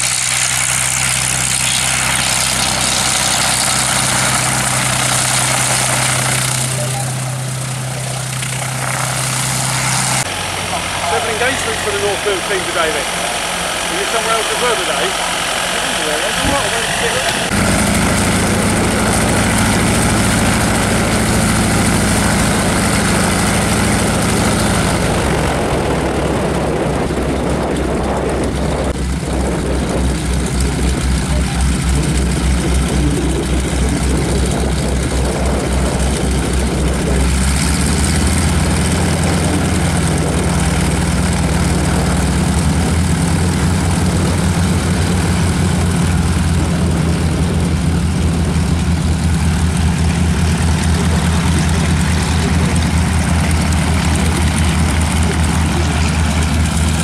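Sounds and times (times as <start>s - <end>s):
biplane radial engine idling: 0.0s - 57.0s.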